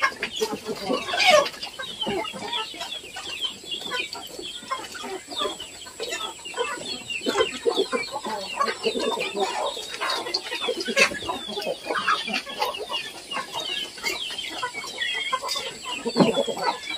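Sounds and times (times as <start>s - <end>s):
chickens clucking and calling: 0.0s - 16.9s.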